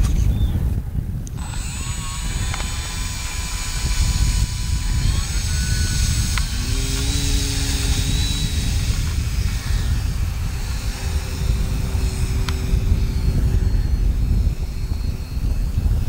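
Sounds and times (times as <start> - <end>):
model plane motor and propeller: 0.0 - 16.0
strong low rumble: 0.0 - 16.0.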